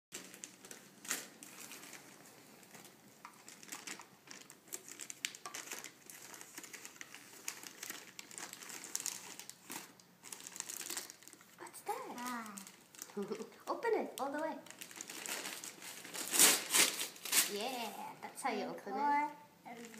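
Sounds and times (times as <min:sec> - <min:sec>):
wrapping paper crinkling: 0:00.1 - 0:18.0, 0:19.7 - 0:19.9.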